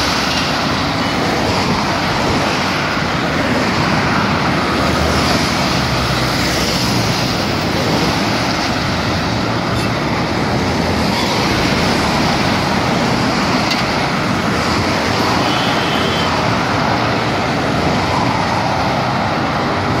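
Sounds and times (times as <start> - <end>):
highway traffic rush: 0.0 - 20.0.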